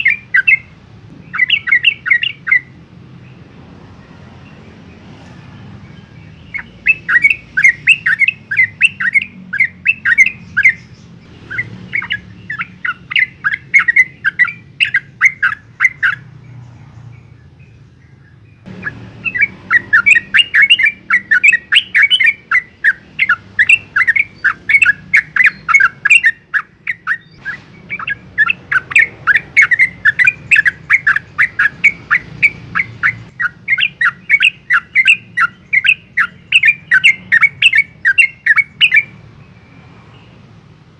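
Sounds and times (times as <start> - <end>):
bird singing chattering notes: 0.0 - 3.5, 6.1 - 40.4.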